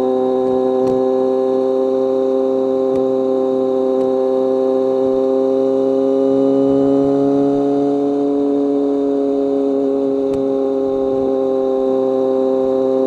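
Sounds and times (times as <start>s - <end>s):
motorcycle engine and exhaust: 0.0s - 13.0s.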